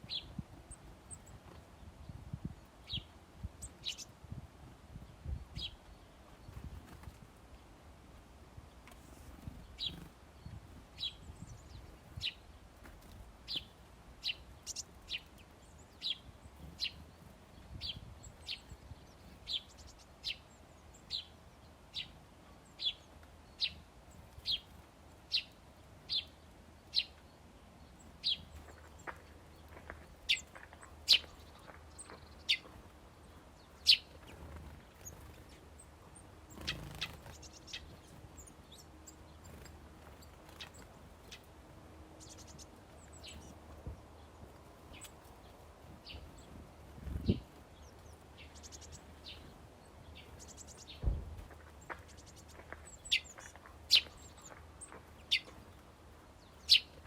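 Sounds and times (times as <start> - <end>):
small bird chirping: 2.8 - 4.2, 9.1 - 41.5, 42.2 - 43.6, 44.2 - 55.8, 56.4 - 57.0.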